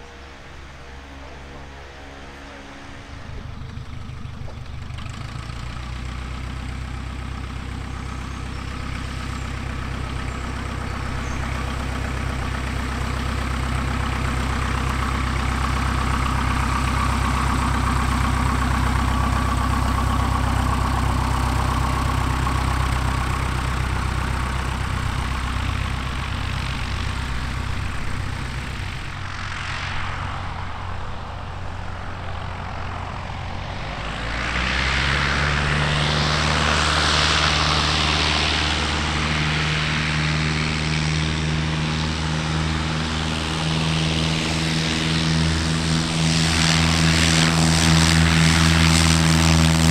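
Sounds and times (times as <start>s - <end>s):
light plane engine and propeller: 0.0s - 49.9s
second plane engine taxiing close: 0.0s - 49.9s.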